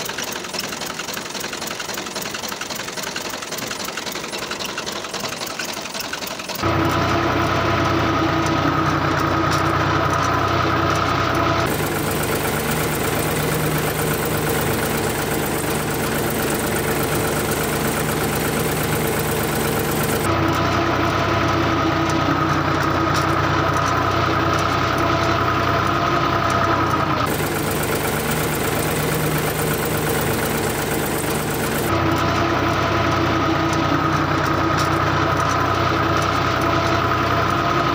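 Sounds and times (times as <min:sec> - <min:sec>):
model tractor motor humming: 0:00.0 - 0:37.9.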